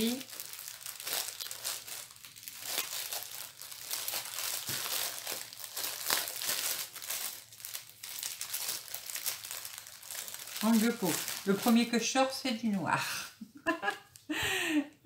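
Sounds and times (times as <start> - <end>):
plastic bags crinkling: 0.0 - 12.7.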